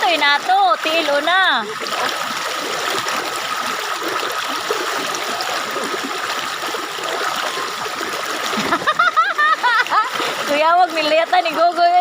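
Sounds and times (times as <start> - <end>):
spring water flowing: 0.0 - 12.0.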